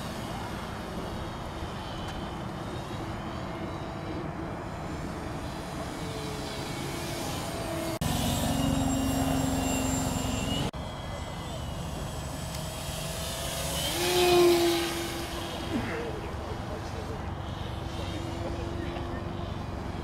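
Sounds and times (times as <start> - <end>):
model airplane motor drone: 0.0 - 20.0.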